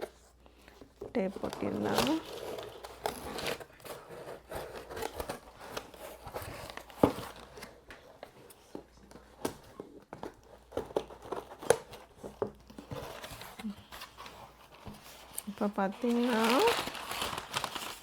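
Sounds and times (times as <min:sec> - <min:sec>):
cardboard and paper crinkling: 0:00.0 - 0:18.0.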